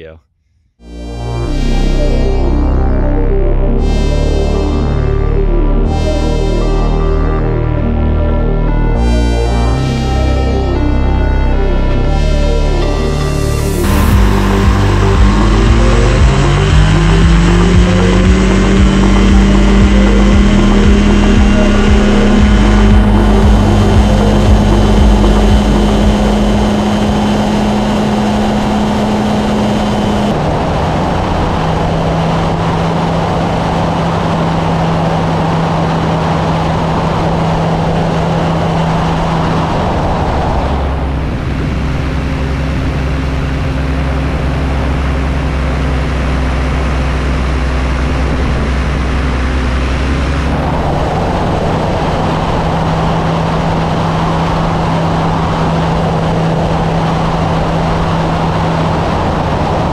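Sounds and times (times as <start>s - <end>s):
ultralight aircraft engine and propeller: 10.0s - 59.9s.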